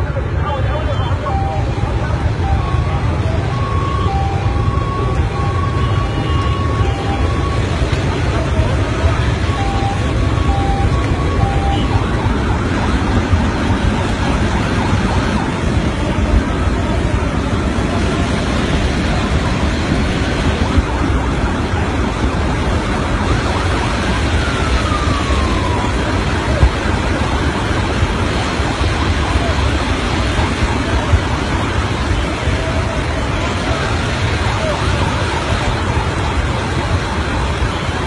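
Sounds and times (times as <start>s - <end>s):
floodwater rushing: 0.0s - 38.0s.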